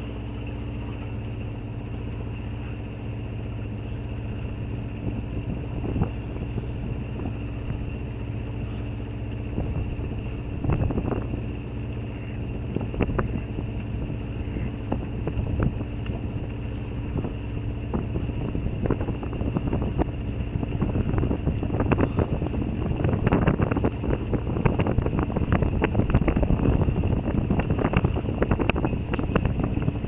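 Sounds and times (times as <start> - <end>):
boat engine running: 0.0 - 30.0
wind buffeting microphone: 0.0 - 30.0.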